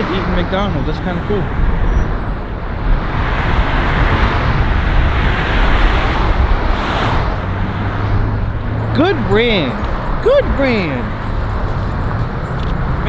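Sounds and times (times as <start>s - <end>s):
vehicle passing close by: 0.0s - 13.0s
wind rumble on microphone: 0.0s - 13.0s.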